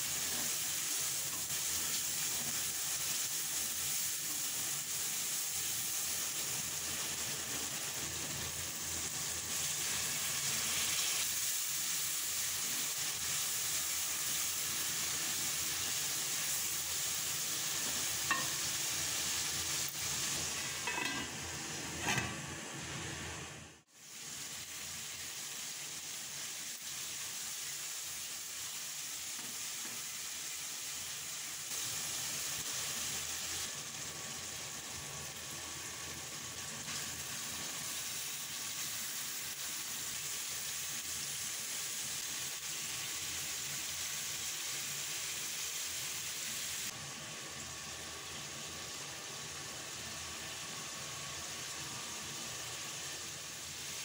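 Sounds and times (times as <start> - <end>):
spices sizzling in oil: 0.0 - 54.0.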